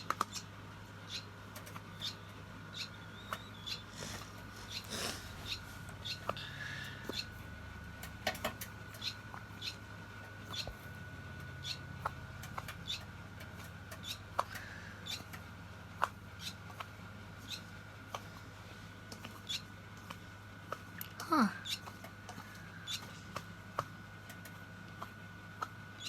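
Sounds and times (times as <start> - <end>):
baby bird peeping: 0.0 - 26.0.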